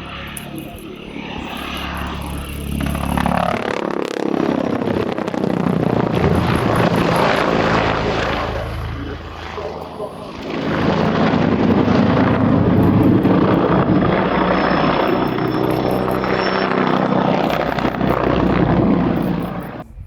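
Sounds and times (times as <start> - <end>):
faint high whine: 0.0 - 20.0
helicopter rotors and engines: 0.0 - 20.0.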